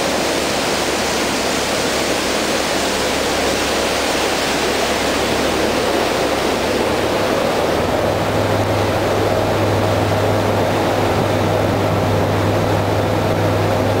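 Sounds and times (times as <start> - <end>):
diesel engine drone: 0.0 - 14.0
rushing wake water: 0.0 - 14.0
wind: 0.0 - 14.0.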